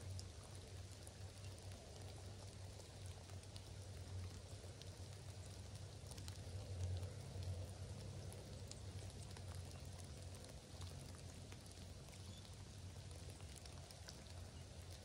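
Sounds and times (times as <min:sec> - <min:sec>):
faint rain hiss: 0:00.0 - 0:15.0
raindrops ticking: 0:00.0 - 0:15.0.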